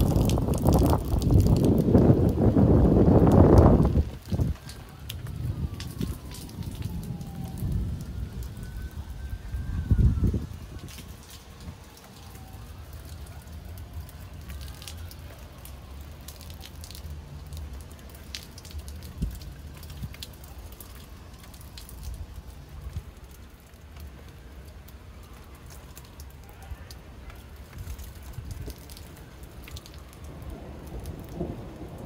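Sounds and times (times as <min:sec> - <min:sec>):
rain pattering on surfaces: 0:00.0 - 0:32.0.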